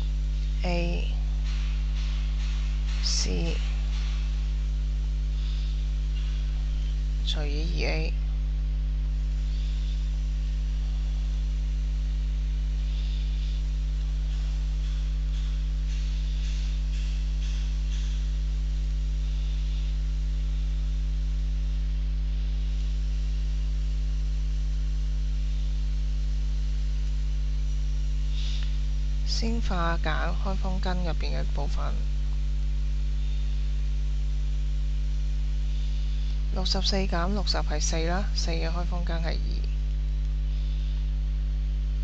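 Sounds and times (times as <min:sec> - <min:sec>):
electrical mains hum: 0:00.0 - 0:42.0.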